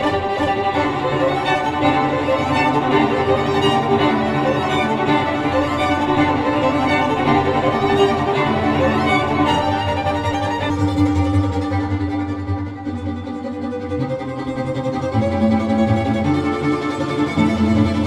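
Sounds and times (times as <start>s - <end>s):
violin and strings music: 0.0s - 18.0s.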